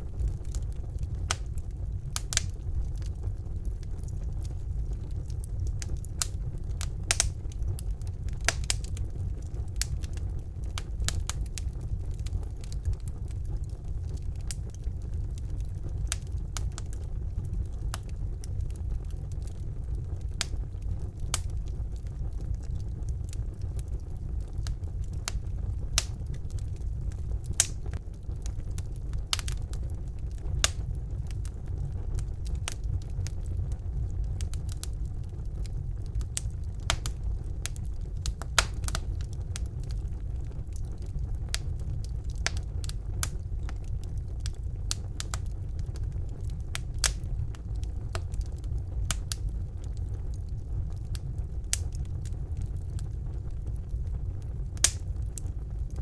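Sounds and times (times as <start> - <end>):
fire flames rumbling: 0.0 - 56.0
logs crackling and popping: 0.0 - 56.0.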